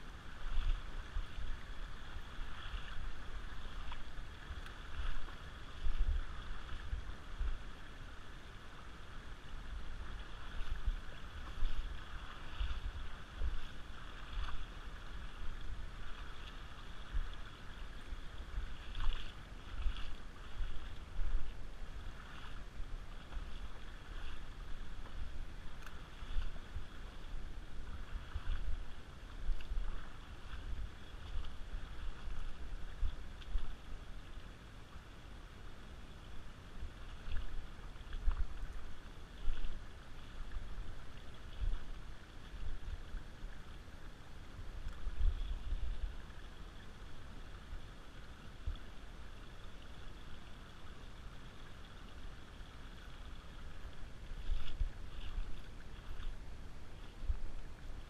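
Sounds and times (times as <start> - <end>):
river water over gravel: 0.0 - 58.0.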